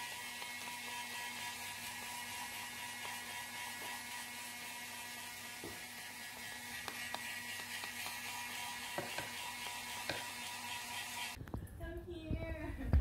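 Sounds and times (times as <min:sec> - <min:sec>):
hair dryer whirring: 0:00.0 - 0:11.4.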